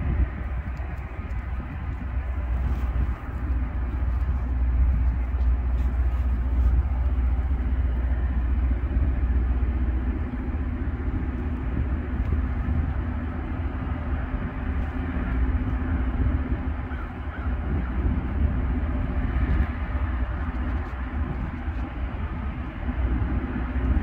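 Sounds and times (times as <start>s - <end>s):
constant hum: 0.0s - 24.0s
diesel engines rumbling: 0.0s - 24.0s.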